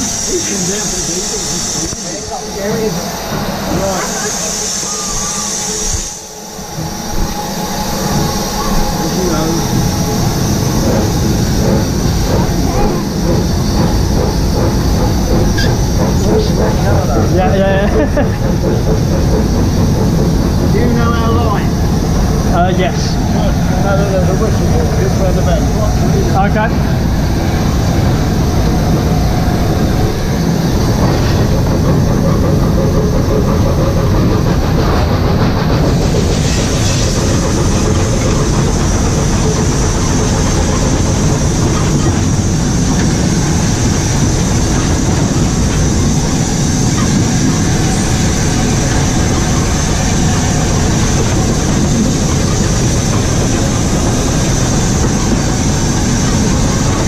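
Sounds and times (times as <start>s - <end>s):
steam locomotive rumbling on rails: 0.0s - 57.0s.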